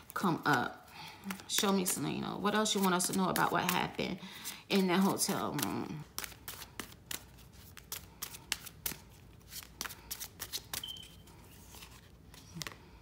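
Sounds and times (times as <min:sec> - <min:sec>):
playing cards being shuffled: 0:00.0 - 0:13.0.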